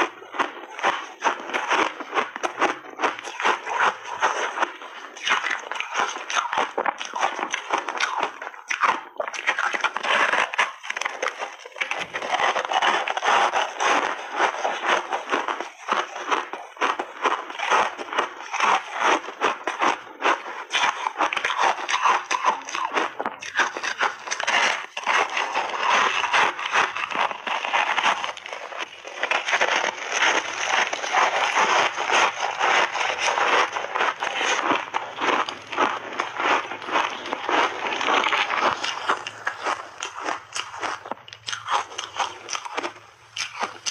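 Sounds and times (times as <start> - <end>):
crunchy chewing close up: 0.0 - 43.9.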